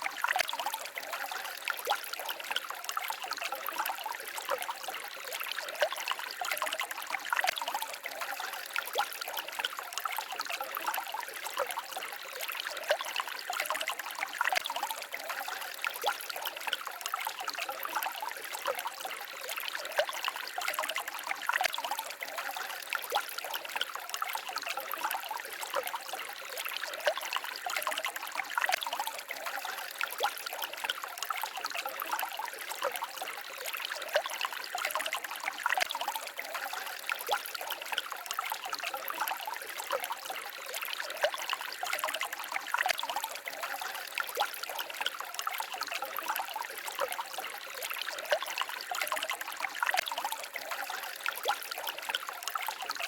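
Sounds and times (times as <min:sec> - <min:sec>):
stream trickling over stones: 0:00.0 - 0:53.0.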